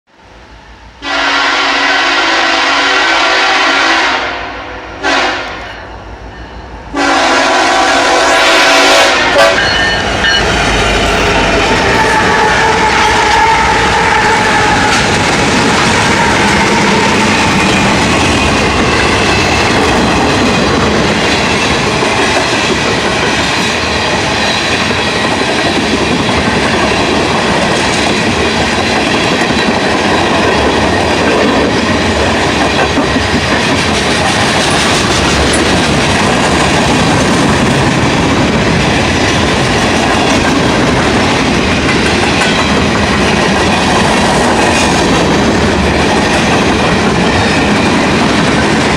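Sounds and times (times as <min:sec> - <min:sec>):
freight train wheels clacking: 0:05.1 - 0:48.9.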